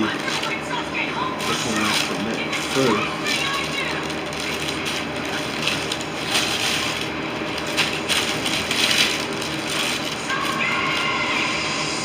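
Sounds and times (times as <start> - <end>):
packaging crackling and rustling: 0.0 - 11.4.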